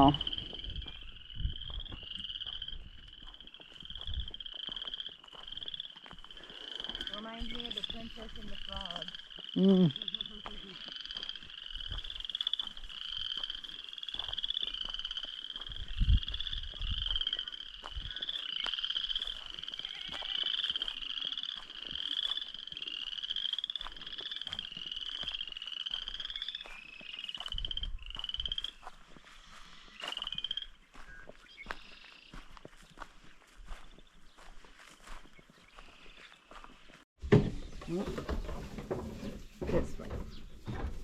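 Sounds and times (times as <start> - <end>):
chorus of frogs trilling: 0.0 - 37.0.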